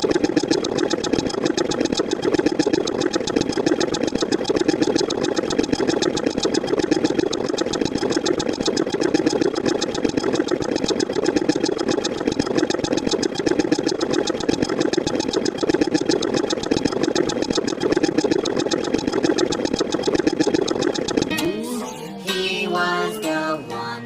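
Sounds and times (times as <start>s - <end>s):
pulsing buzzing drone: 0.0s - 21.5s.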